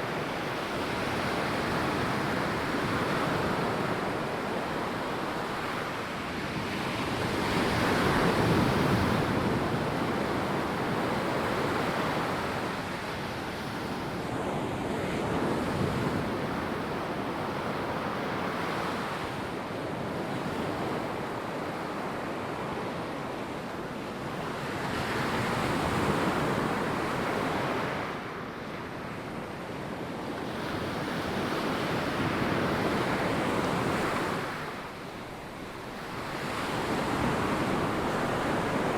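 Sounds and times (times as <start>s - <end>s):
wind noise: 0.0s - 23.4s, 24.2s - 38.9s.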